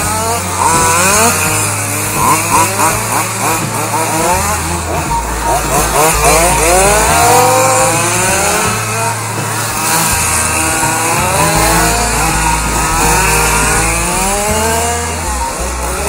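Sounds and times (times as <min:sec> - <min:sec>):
model car engines revving: 0:00.0 - 0:16.0.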